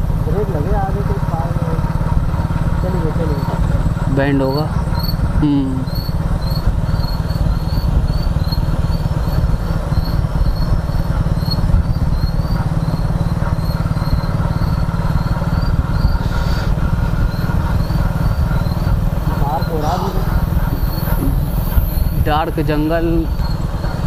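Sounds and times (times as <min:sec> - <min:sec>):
motorcycle engine rumble: 0:00.0 - 0:24.0
cricket chirping: 0:02.4 - 0:24.0.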